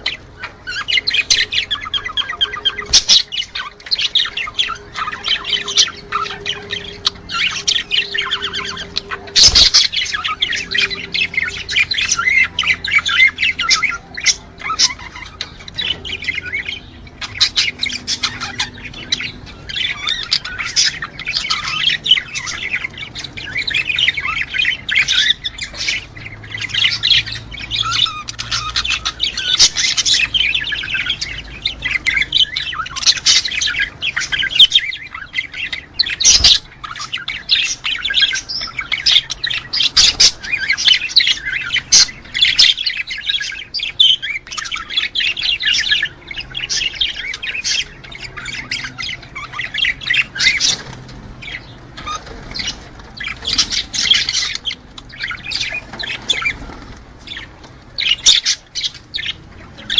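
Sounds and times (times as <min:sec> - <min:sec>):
budgerigars chattering: 0:00.0 - 0:59.9.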